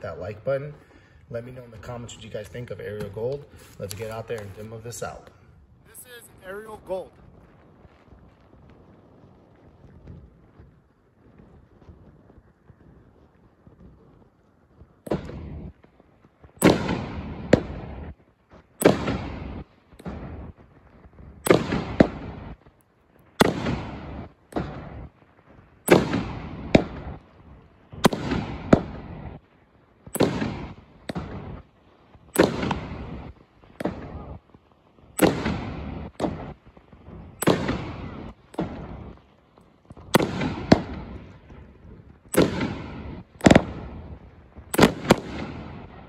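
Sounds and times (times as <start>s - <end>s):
fireworks shells exploding: 0.0s - 46.0s.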